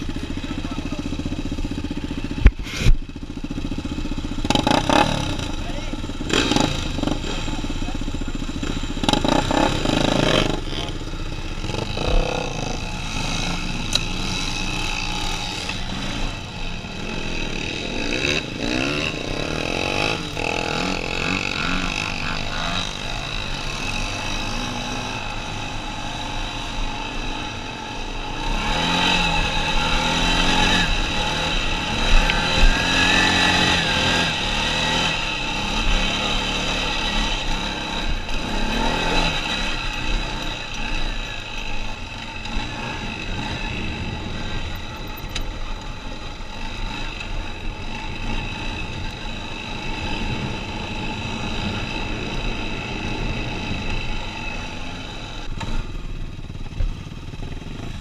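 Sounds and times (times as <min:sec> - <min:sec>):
atv engine revving: 0:00.0 - 0:58.0
other quad and dirt bike engines: 0:00.0 - 0:58.0.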